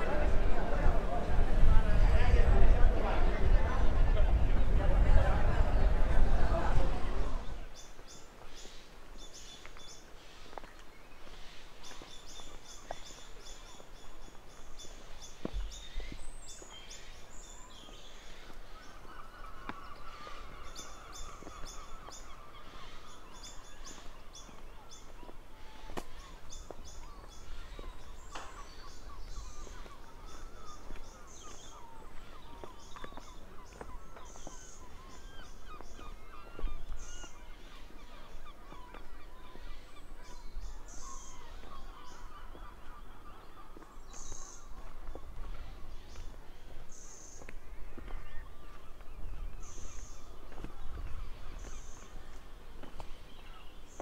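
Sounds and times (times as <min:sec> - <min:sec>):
birds chirping: 0:00.0 - 0:54.0
lower bird calls: 0:07.2 - 0:54.0.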